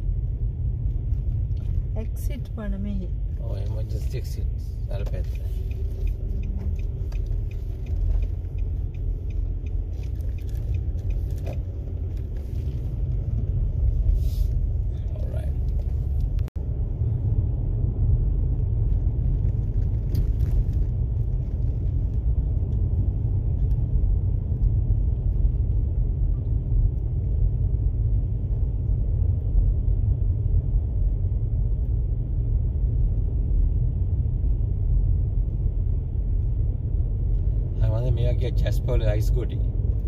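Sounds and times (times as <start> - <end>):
car cabin road and engine rumble: 0.0 - 40.0.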